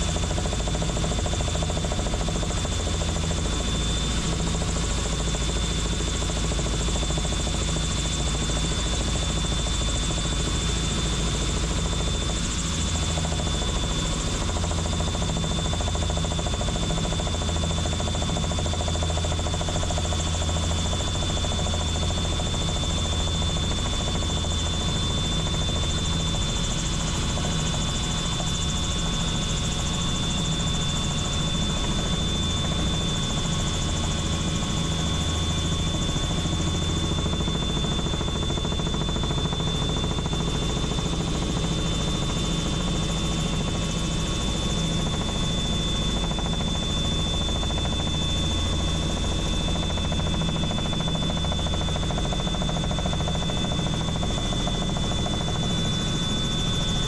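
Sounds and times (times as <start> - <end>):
helicopter rotor drone: 0.0 - 57.0.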